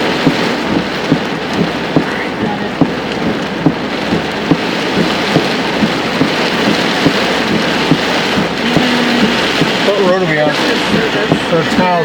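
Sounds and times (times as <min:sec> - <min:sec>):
heavy rain on a vehicle: 0:00.0 - 0:12.0.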